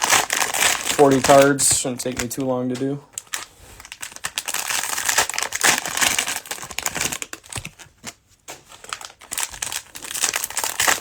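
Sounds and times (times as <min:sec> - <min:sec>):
cellophane wrapper crinkling and tearing: 0:00.0 - 0:11.0.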